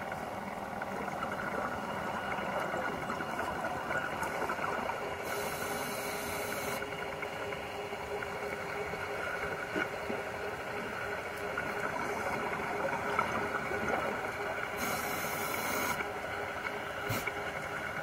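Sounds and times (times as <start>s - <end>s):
underwater hiss and low hum: 0.0s - 18.0s.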